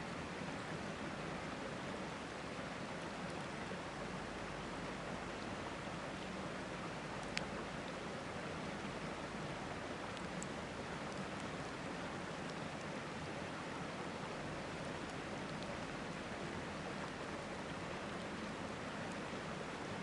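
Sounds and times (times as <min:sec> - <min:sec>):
faint campfire crackles: 0:00.0 - 0:20.0
river water rushing: 0:00.0 - 0:20.0.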